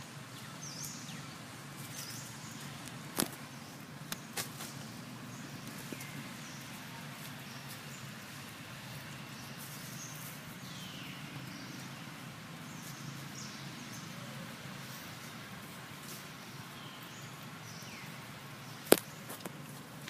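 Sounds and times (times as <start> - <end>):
light hiss: 0.0 - 20.0.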